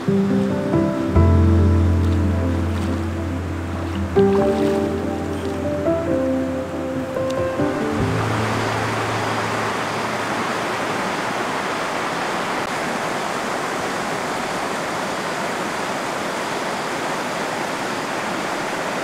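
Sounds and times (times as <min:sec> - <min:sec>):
river rapids rushing: 0:00.0 - 0:19.0.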